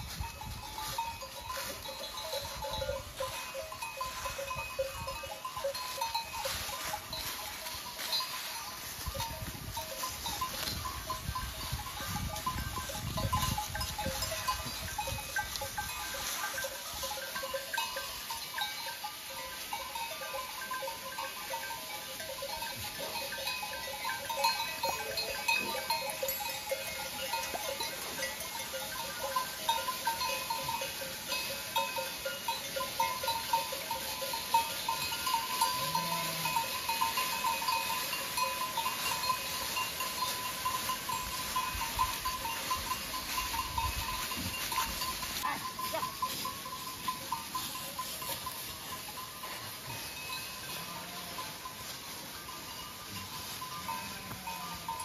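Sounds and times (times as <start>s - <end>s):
goat bells clanking: 0.0s - 55.0s
hooves rustling dry leaves: 0.0s - 55.0s.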